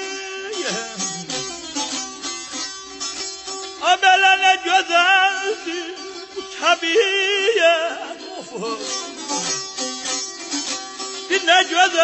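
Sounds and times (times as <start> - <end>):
plucked and strummed lute: 0.0 - 12.0.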